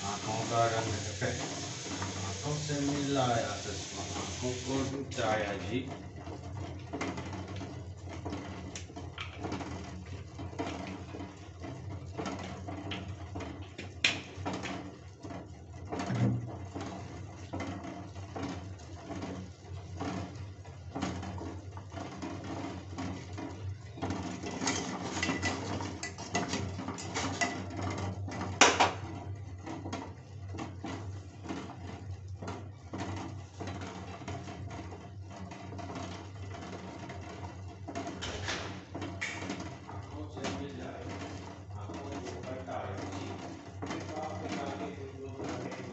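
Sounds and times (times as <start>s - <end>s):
water bubbling in pot: 0.0s - 38.2s.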